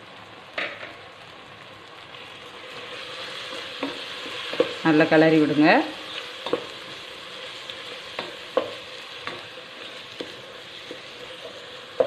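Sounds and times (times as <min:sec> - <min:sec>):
masala sizzling in a pot: 0:00.0 - 0:12.0.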